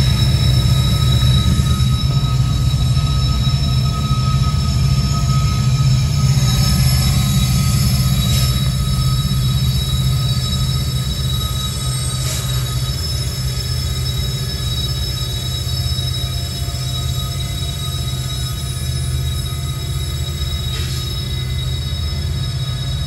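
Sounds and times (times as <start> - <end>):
high-pitched whine: 0.0 - 23.0
locomotive engine drone: 0.0 - 23.0.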